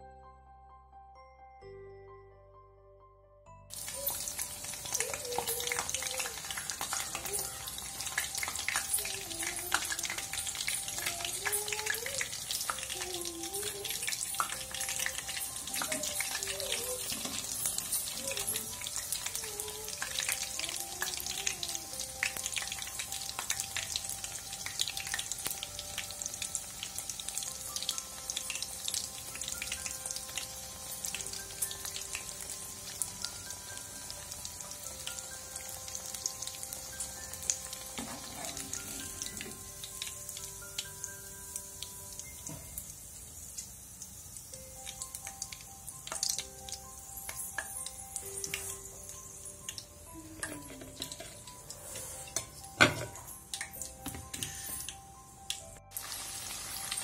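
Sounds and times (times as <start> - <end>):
batter sizzling in hot oil: 3.7 - 57.0.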